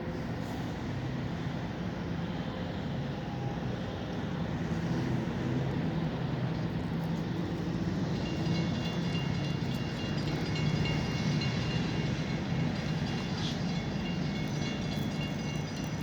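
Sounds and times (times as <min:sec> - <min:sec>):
diesel locomotive engine throbbing: 0:00.0 - 0:16.0.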